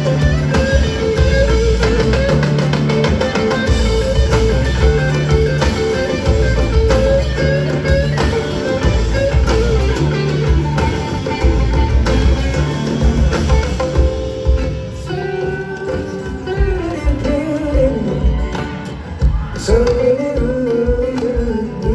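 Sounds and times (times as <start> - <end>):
guitar lead bending notes: 0.0 - 21.9.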